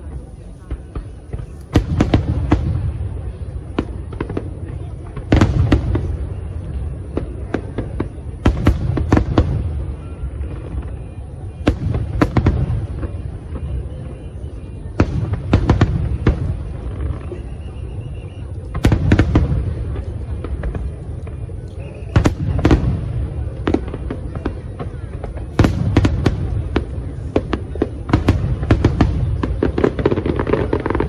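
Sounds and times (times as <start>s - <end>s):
fireworks bursting bangs: 0.0s - 31.0s.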